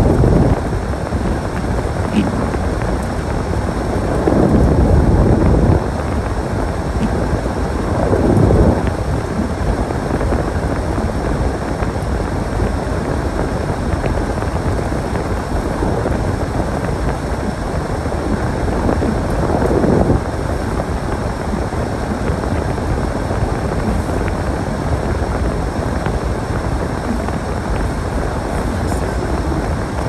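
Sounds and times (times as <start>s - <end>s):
storm wind buffeting microphone: 0.0s - 30.0s.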